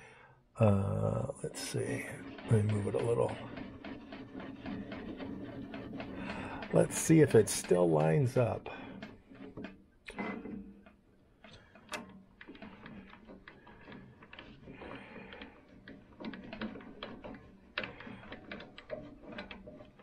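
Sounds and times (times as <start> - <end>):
lathe hand cranks clicking: 1.1 - 20.0.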